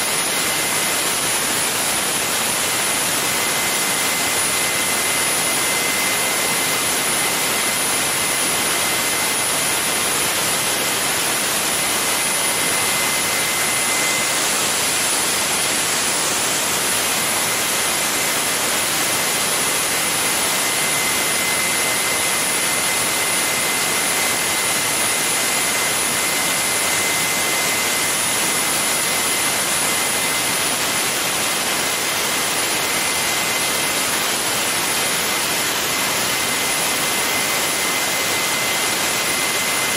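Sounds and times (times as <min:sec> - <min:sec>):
gas turbine rushing and whistling: 0:00.0 - 0:39.9.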